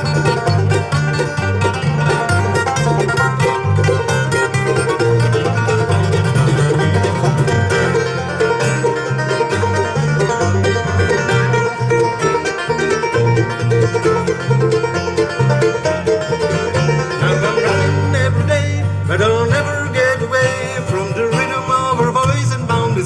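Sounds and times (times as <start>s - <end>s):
banjo picking: 0.0s - 23.0s
bluegrass band playing: 0.0s - 23.0s.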